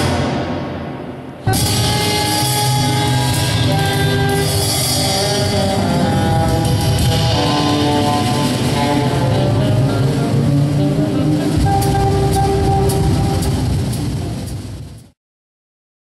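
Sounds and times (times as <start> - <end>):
drum kit with cymbals: 0.0 - 15.1
saxophone long held notes: 1.5 - 14.5
plucked double bass: 1.5 - 14.8.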